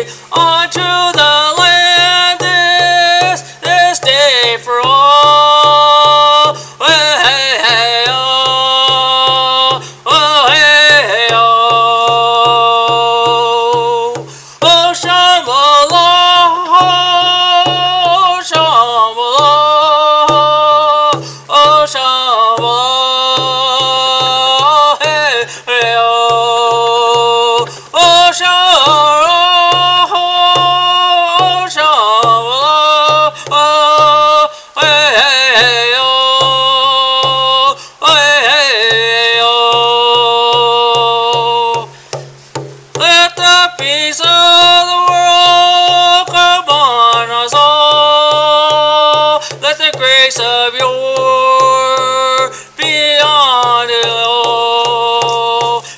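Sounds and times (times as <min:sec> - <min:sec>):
man singing a chant: 0:00.0 - 0:55.9
steady low drumbeat: 0:00.0 - 0:55.9.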